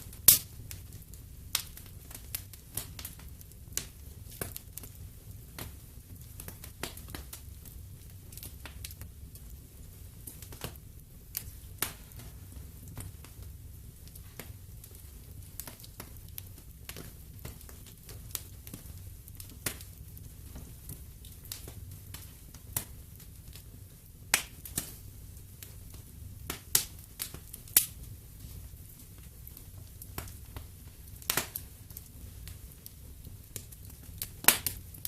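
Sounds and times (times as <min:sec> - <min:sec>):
low rumble of flames: 0:00.0 - 0:35.0
wood fire crackling and popping: 0:00.0 - 0:35.0.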